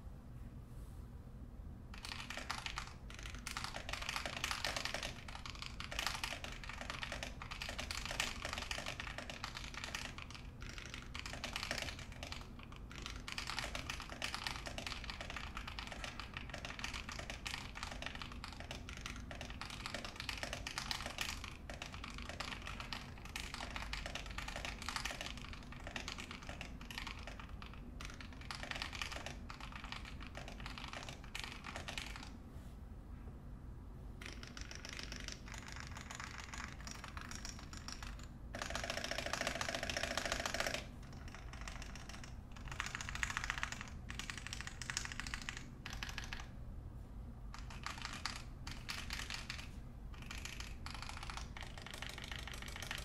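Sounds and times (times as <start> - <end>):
mechanical keyboard typing: 2.0 - 32.3, 34.2 - 46.6, 47.5 - 53.0.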